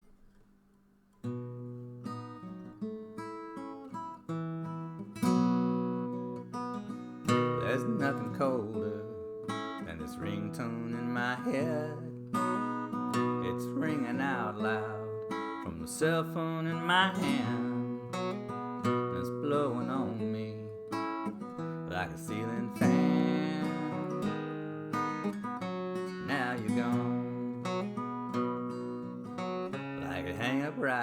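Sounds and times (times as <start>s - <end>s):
acoustic guitar chords: 0.0s - 31.0s.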